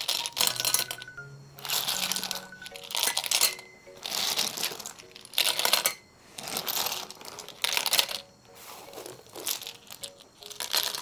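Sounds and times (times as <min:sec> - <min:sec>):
snail shells rattling in metal pot: 0:00.0 - 0:08.4, 0:09.2 - 0:11.0.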